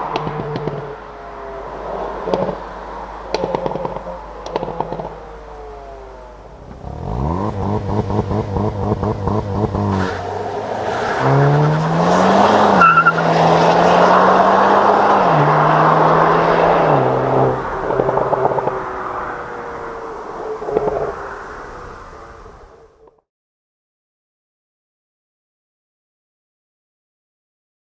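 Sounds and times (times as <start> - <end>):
car engine and exhaust: 0.0 - 23.2
tyre and road noise: 0.0 - 23.2.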